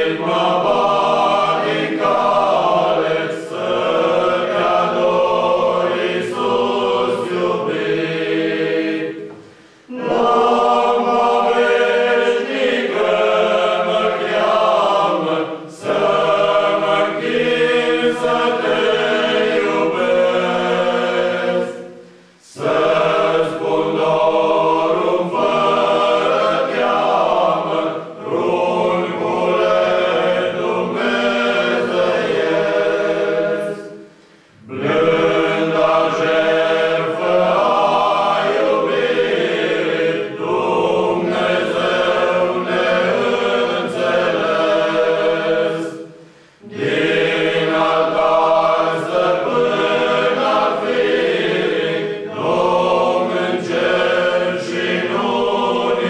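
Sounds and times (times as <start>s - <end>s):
men's choir singing: 0.0s - 56.0s.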